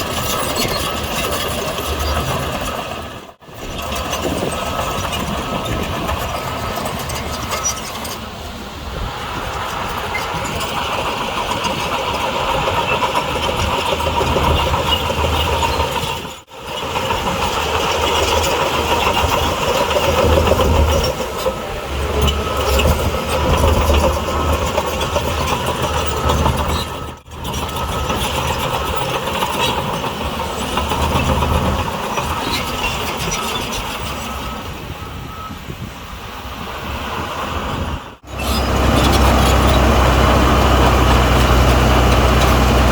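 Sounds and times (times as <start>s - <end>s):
diesel machinery engine rumble: 0.0s - 42.9s.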